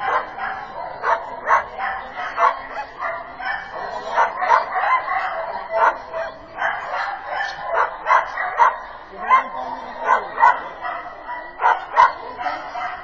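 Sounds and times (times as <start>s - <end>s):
dog barking: 0.0s - 13.0s.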